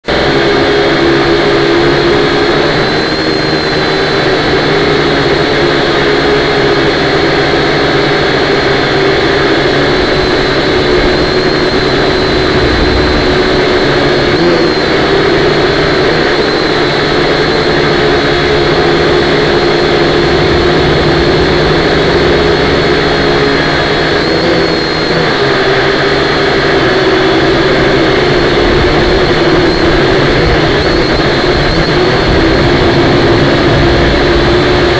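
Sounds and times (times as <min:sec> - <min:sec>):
drone propellers buzzing: 0:00.0 - 0:34.9.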